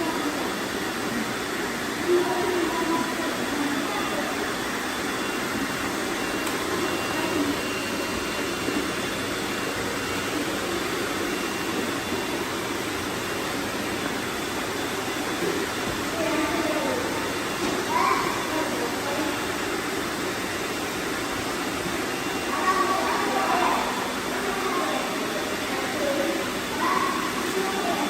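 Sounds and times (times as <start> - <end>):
robot vacuum cleaner whirring: 0.0 - 28.0.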